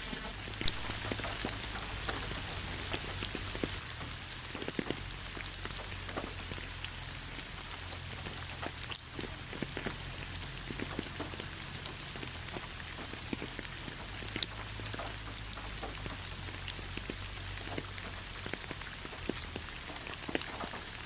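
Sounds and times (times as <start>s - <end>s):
raindrop strikes: 0.0s - 21.0s
steady rain hiss: 0.0s - 21.0s.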